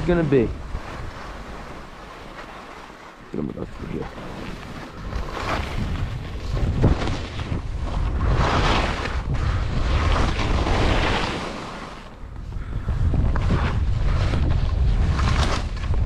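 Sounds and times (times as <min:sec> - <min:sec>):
skis scraping on snow: 0:00.0 - 0:16.0
wind rumbling on microphone: 0:00.0 - 0:16.0.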